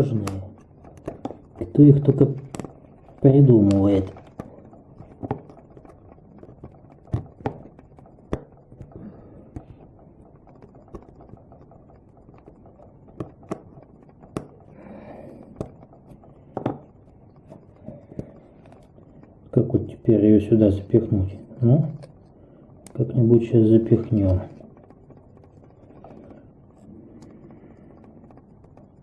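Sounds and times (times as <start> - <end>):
plastic and metal parts clicking: 0.0 - 29.0.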